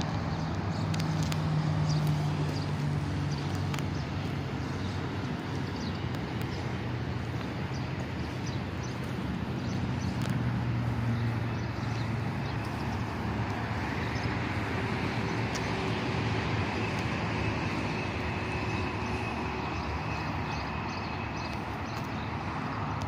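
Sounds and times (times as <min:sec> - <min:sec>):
faint footsteps on pavement: 0:00.0 - 0:23.0
road traffic rumble: 0:00.0 - 0:23.0.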